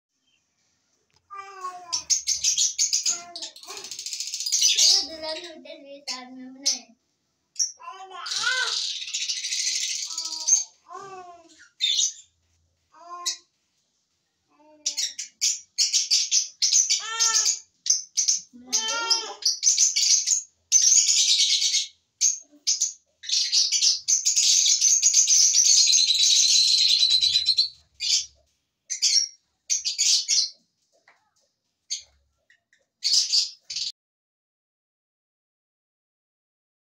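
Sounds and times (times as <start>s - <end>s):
lovebirds chattering and chirping: 1.3s - 7.0s, 7.6s - 12.3s, 14.6s - 33.9s.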